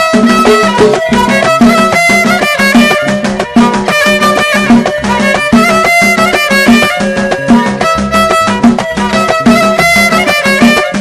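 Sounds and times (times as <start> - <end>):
lively fiddle music: 0.0 - 11.0.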